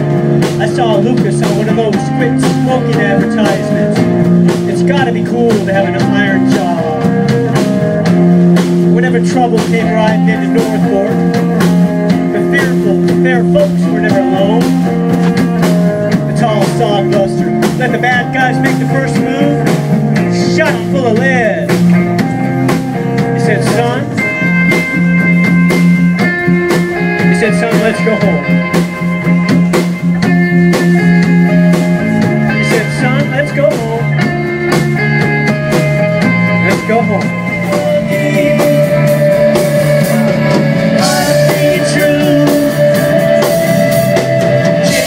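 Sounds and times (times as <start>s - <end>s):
drum kit: 0.0s - 45.0s
electric guitars: 0.0s - 45.0s.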